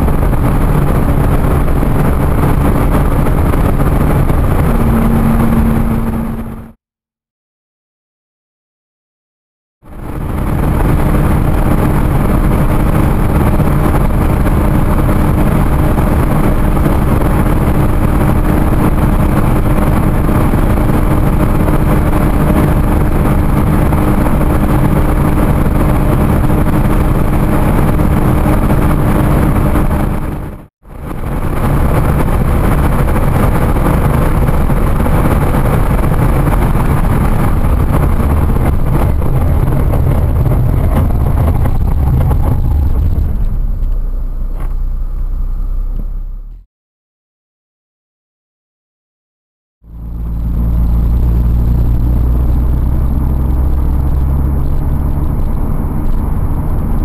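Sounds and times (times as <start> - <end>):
car engine drone: 0.0 - 6.8, 9.8 - 46.7, 49.8 - 57.0
wind roar: 0.0 - 6.8, 9.8 - 46.6, 49.9 - 57.0.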